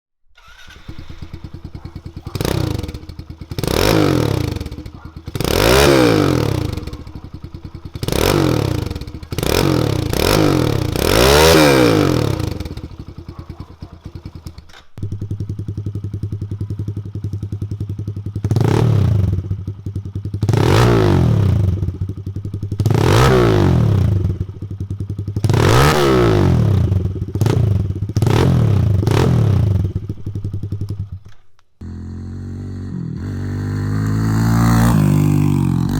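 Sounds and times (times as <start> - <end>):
motorcycle engine idling and revving: 0.3 - 35.9.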